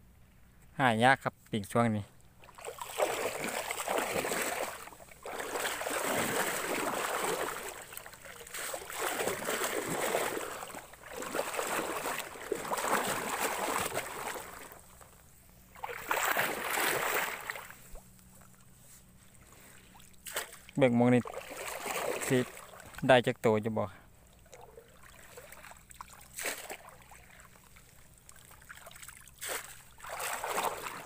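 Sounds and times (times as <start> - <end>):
water sloshing from wading: 2.2 - 23.3, 24.0 - 31.0.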